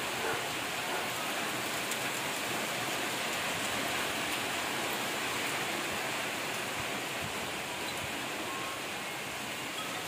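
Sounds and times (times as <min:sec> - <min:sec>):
steady rain hissing: 0:00.0 - 0:10.0.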